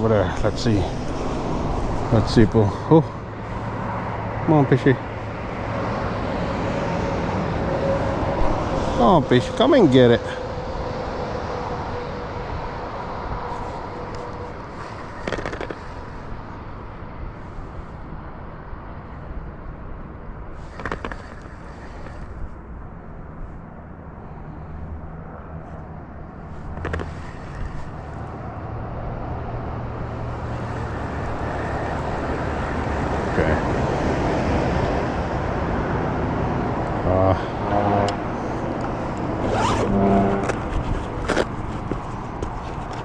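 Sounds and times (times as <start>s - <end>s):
low engine drone: 0.0s - 43.0s
outdoor background noise: 0.0s - 43.0s.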